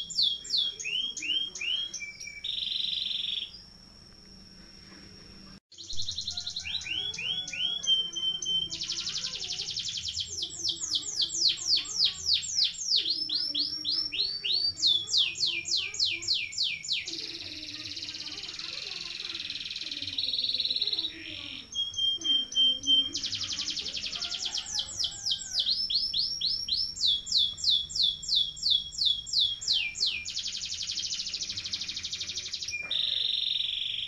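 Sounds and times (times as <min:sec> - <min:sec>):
canary singing: 0:00.0 - 0:03.9, 0:05.7 - 0:34.0.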